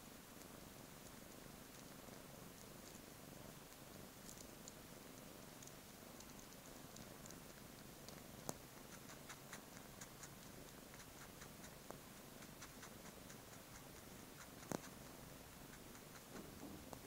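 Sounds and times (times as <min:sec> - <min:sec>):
cat sucking on blanket clicks: 0:00.4 - 0:17.0.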